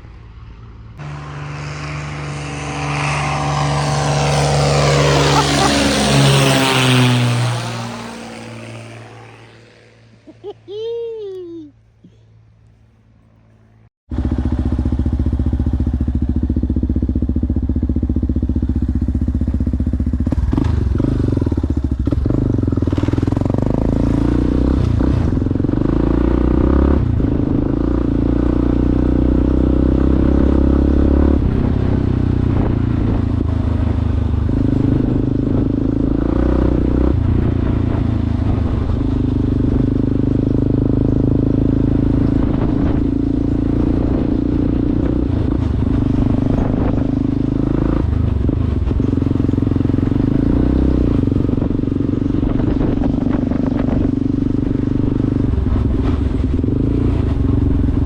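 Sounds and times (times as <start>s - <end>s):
motorcycle engine revving: 0.0s - 10.5s, 13.3s - 58.0s.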